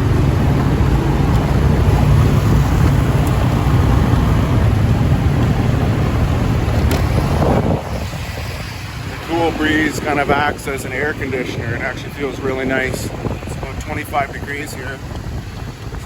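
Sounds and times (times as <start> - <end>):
motorbike engine: 0.0 - 16.0
street traffic: 0.0 - 16.0
wind on microphone: 0.0 - 16.0.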